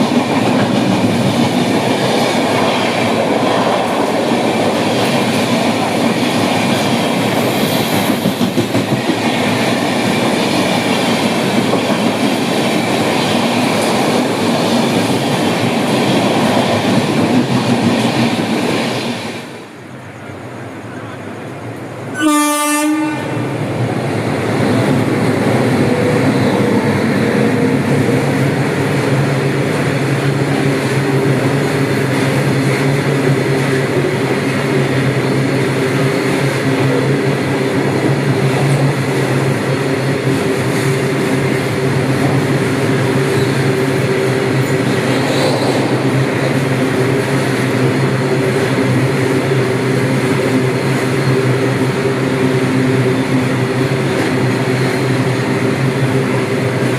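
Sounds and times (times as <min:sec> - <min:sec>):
train rumbling past: 0:00.0 - 0:56.9.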